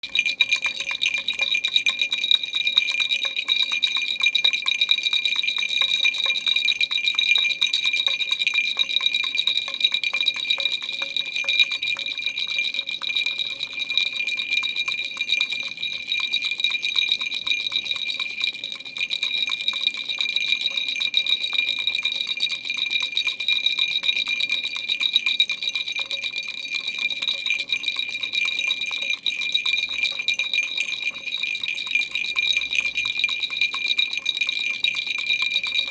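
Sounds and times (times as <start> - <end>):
baby rattle clicking and ringing: 0.0 - 23.6, 27.0 - 35.9.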